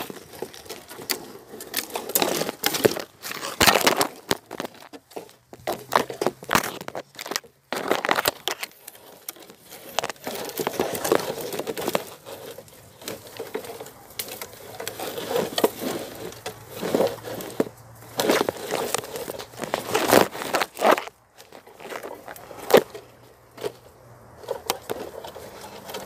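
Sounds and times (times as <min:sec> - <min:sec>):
dry leaves and twigs crackling: 0:00.0 - 0:26.0.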